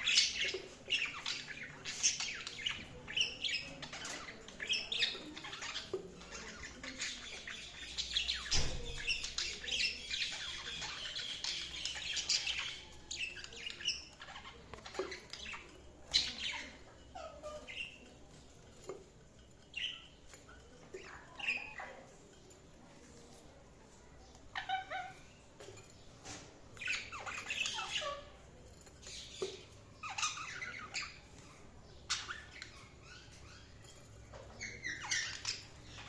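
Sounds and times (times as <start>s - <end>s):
budgerigars chirping and warbling: 0.0s - 22.4s, 24.2s - 36.0s.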